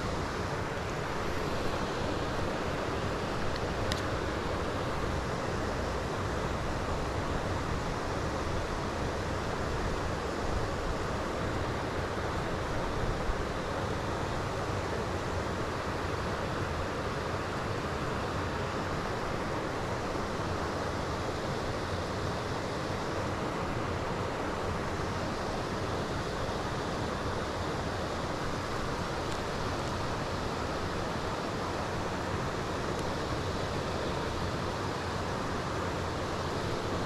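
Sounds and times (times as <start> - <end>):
rushing wind: 0.0 - 37.0.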